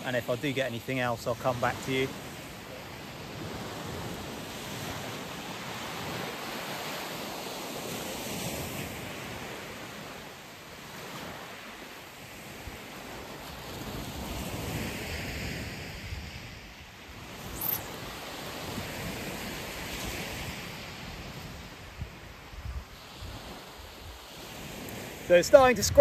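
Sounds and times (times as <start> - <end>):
waves washing up shingle beach: 0.0 - 26.0.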